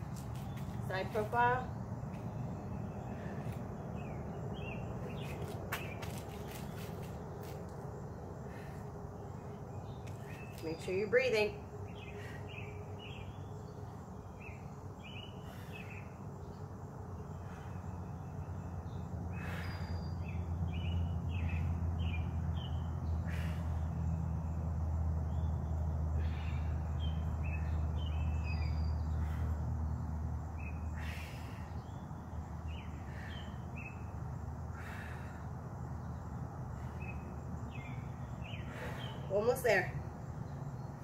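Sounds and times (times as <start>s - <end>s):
songbirds calling: 0.0s - 41.0s.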